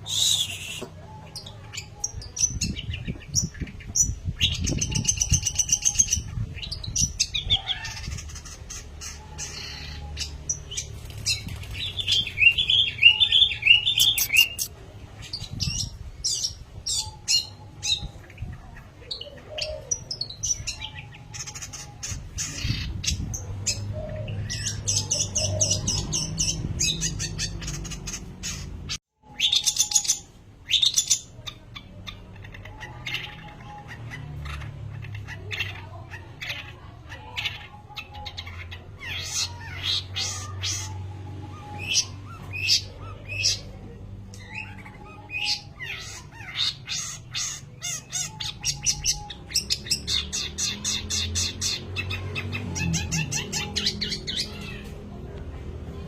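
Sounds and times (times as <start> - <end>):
bird singing: 0.0 - 55.0.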